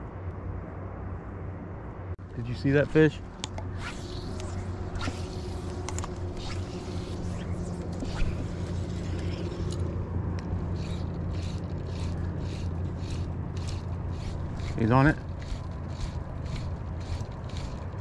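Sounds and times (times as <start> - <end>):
low motor hum: 0.0 - 18.0
fly line swishing: 3.6 - 18.0.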